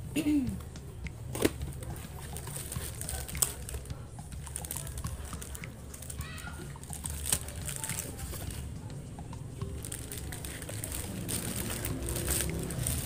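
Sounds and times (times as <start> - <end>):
plastic sachets crinkling: 1.5 - 8.7, 9.8 - 13.0.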